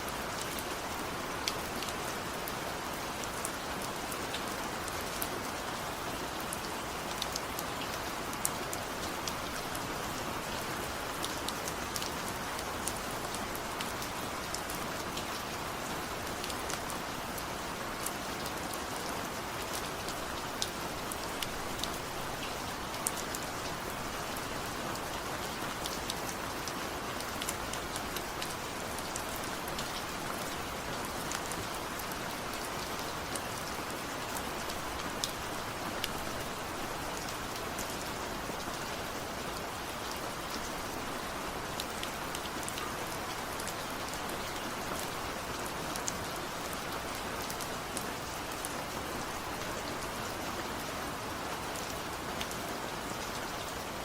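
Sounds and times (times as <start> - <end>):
steady rain: 0.0 - 54.0
raindrops ticking on a surface: 0.1 - 50.8.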